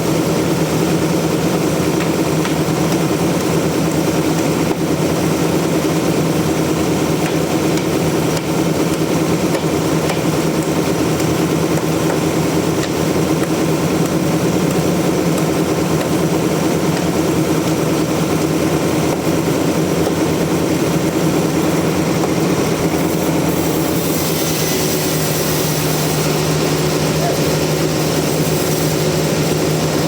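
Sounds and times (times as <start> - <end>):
sawmill machinery humming: 0.0 - 30.0.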